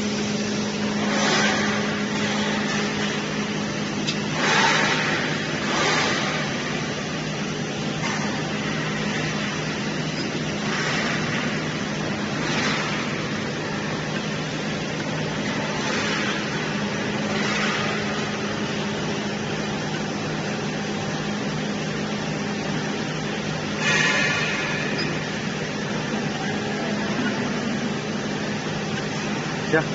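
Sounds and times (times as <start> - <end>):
machine humming: 0.0 - 29.9.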